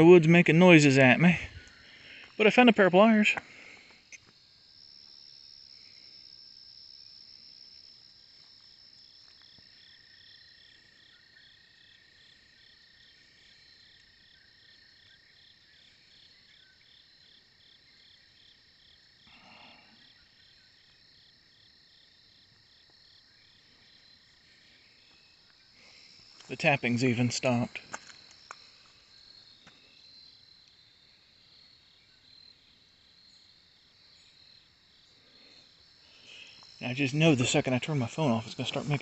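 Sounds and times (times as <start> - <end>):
insect chirping in pulses: 0.0 - 39.0
insect high-pitched trill: 0.0 - 39.0.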